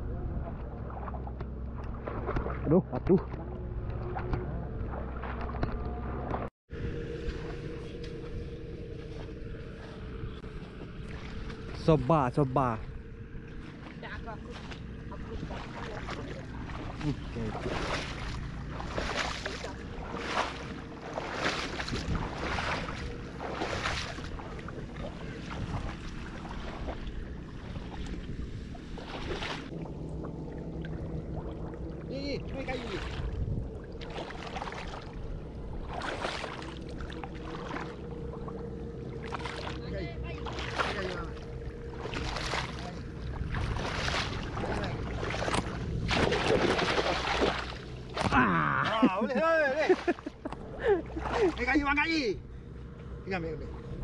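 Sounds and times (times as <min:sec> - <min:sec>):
wind rumbling on microphone: 0:00.0 - 0:48.4
wading splashes in muddy water: 0:00.0 - 0:54.0.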